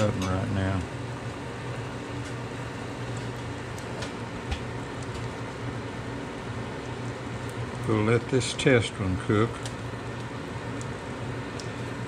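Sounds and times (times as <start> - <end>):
microwave humming: 0.0 - 12.0.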